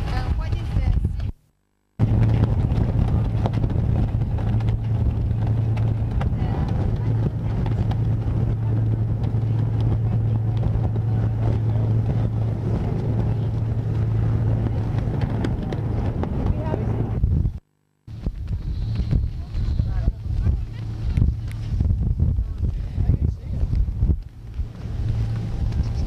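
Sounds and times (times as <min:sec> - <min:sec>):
wind buffeting microphone: 0:00.0 - 0:01.4, 0:02.0 - 0:26.0
boat engine humming: 0:00.0 - 0:26.0.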